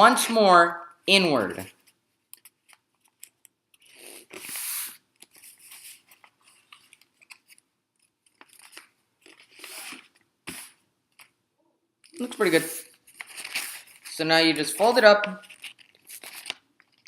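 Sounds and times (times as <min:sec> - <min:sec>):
paper folded and creased: 0:01.8 - 0:11.3, 0:12.1 - 0:17.0.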